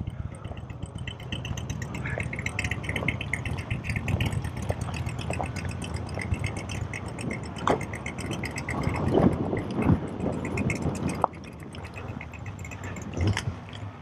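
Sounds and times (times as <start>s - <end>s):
faint high ticks: 0.0s - 13.9s
motorcycle engine idling: 0.0s - 14.0s.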